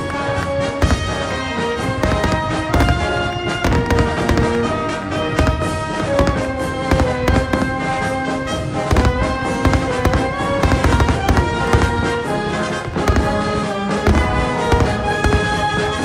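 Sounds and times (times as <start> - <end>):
fireworks bursting: 0.0 - 16.0
music with long held notes: 0.0 - 16.0.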